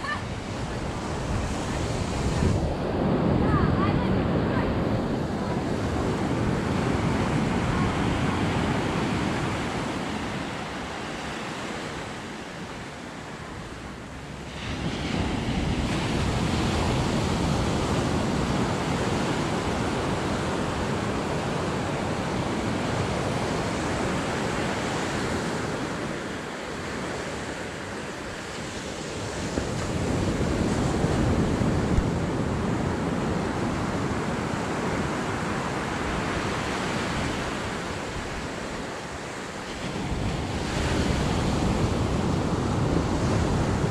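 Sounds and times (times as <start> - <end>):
ocean surf breaking on beach: 0.0 - 43.9
wind buffeting microphone: 0.0 - 43.9.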